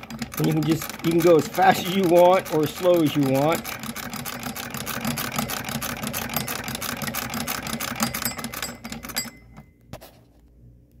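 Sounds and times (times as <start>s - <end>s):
sewing machine clattering: 0.0s - 9.7s.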